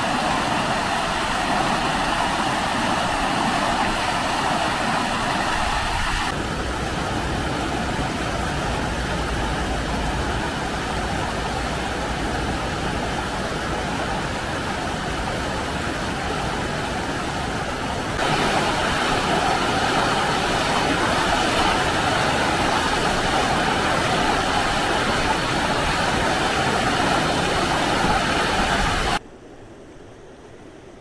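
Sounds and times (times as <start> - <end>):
river rushing over rocks: 0.0 - 29.2.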